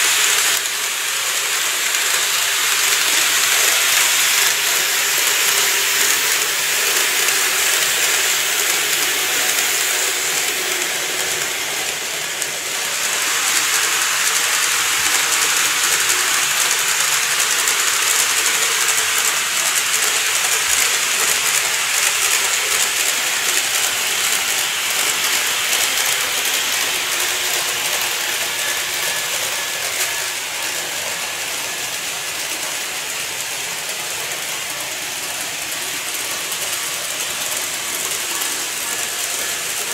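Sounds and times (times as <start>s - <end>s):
model train motor whirring: 0.0s - 39.9s
small wheels hissing on rails: 0.0s - 39.9s.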